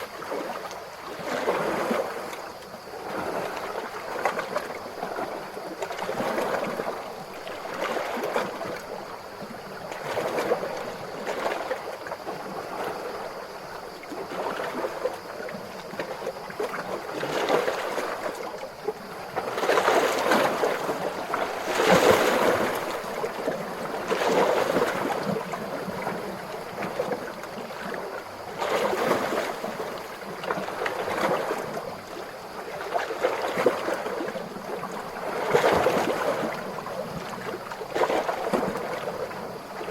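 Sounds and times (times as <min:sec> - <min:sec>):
ocean waves lapping: 0:00.0 - 0:39.9.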